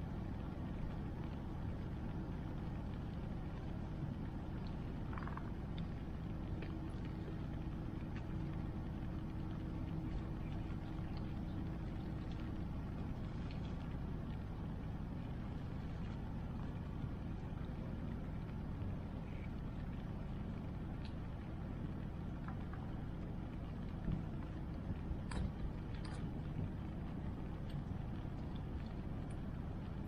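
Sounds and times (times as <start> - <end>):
faint hum: 0.0 - 30.0
rain: 0.0 - 30.0.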